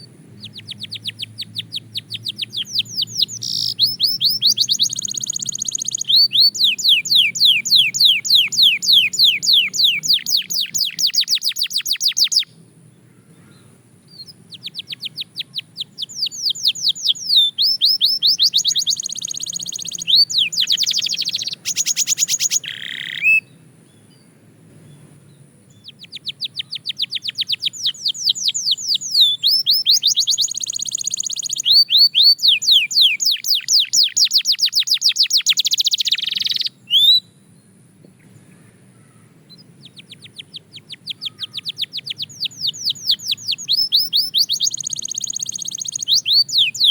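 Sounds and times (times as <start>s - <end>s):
canary singing fast trills: 0.0s - 12.7s, 13.4s - 37.5s, 39.0s - 46.9s.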